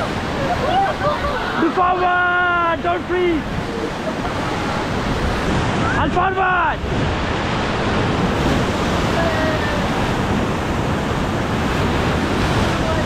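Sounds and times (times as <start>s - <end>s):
whitewater rapids rushing: 0.0s - 13.0s.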